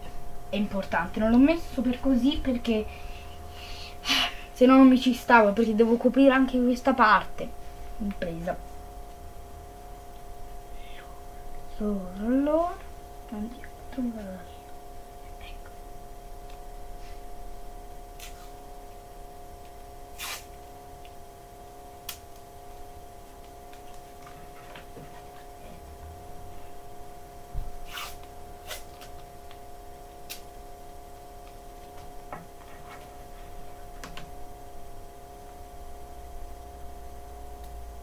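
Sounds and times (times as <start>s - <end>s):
steady hum of fixed tones: 0.0s - 38.0s.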